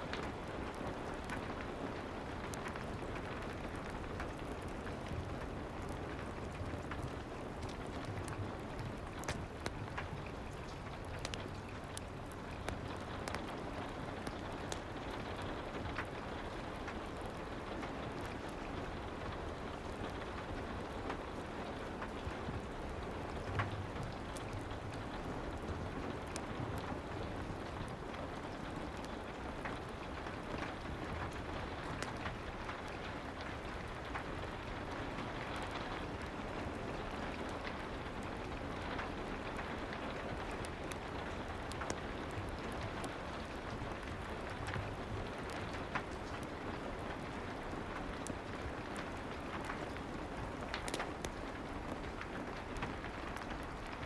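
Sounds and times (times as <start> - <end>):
soft rain: 0.0 - 54.0
wood fire crackling and popping: 0.0 - 54.0.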